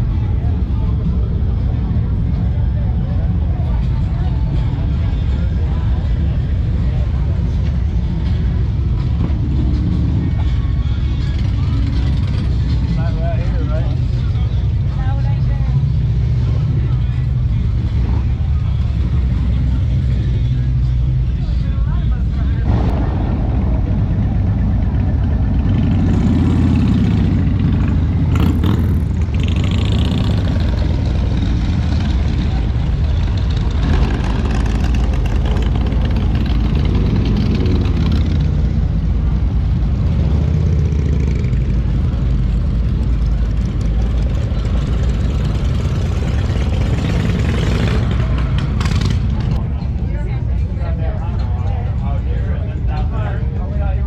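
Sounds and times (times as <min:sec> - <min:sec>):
motorcycle engines revving: 0:00.0 - 0:53.7.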